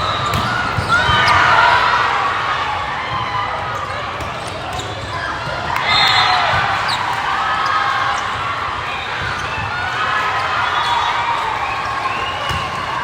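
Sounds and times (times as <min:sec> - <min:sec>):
voices calling out in a hall: 0:00.0 - 0:13.0.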